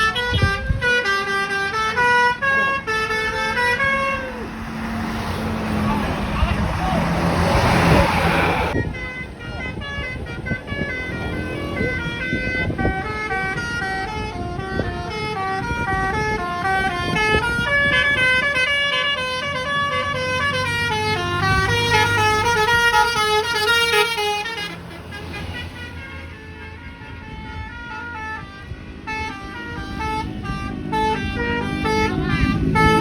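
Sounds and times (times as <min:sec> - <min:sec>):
musical air horn melody: 0:00.0 - 0:05.2, 0:07.5 - 0:33.0.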